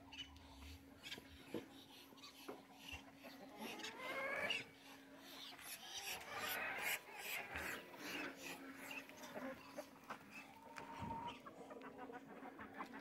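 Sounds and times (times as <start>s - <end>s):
faint farmyard animal calls: 0.0s - 13.0s
faint steady hum: 0.0s - 13.0s.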